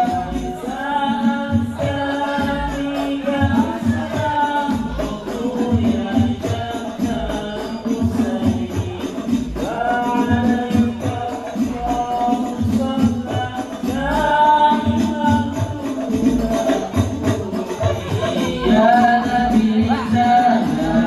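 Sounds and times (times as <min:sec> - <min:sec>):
frame drums beating: 0:00.0 - 0:21.0
man singing into a microphone: 0:00.0 - 0:21.0.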